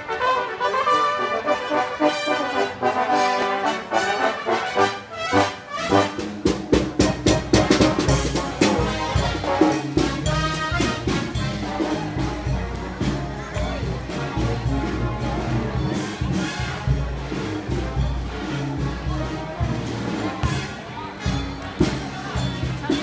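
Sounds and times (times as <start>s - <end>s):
brass marching band playing: 0.0s - 23.0s.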